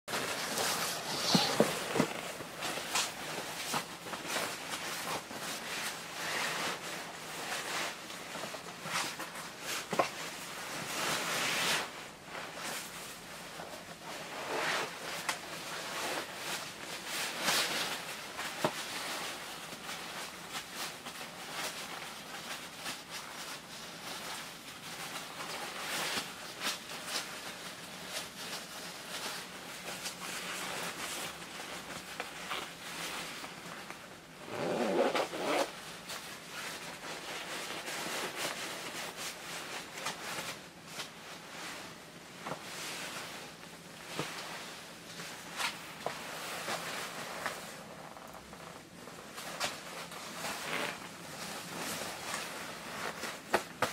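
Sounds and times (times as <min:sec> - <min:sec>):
nylon clothing rustling: 0:00.1 - 0:53.9.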